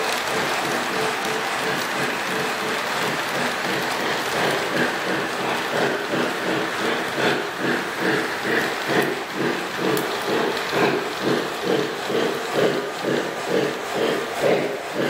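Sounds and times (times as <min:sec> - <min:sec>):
model train wheels rattling: 0:00.0 - 0:15.0.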